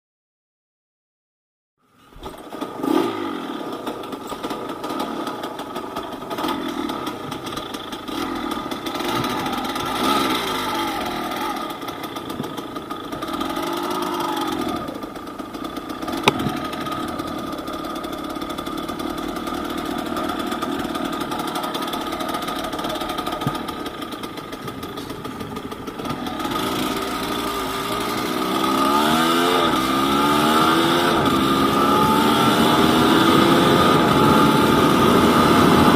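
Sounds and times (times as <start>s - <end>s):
two-stroke motorcycle engine revving: 2.2s - 35.9s.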